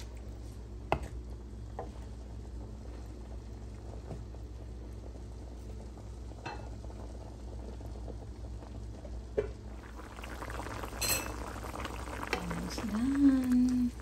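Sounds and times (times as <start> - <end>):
steady low hum: 0.0 - 14.0
stew bubbling in pot: 0.0 - 14.0.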